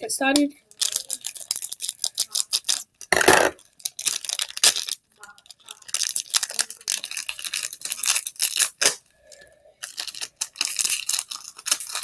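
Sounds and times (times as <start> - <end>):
card pack wrapper crinkling: 0.7 - 9.0, 9.8 - 12.0.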